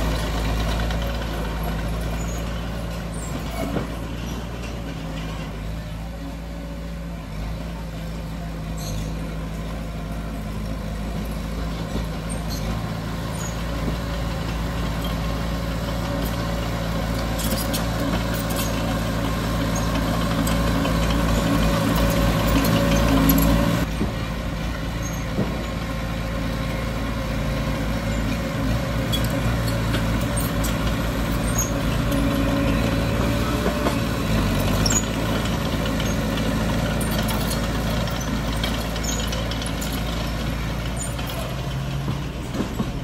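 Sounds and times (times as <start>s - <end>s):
diesel machinery engine running: 0.0s - 43.0s.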